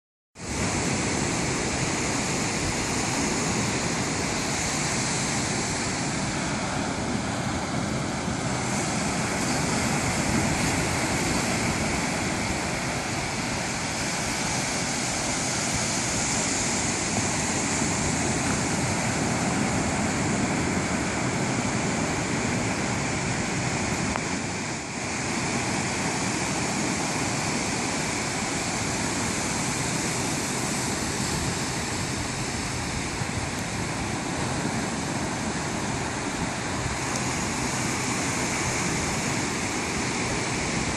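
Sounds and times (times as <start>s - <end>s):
ocean surf breaking on beach: 0.4s - 40.9s.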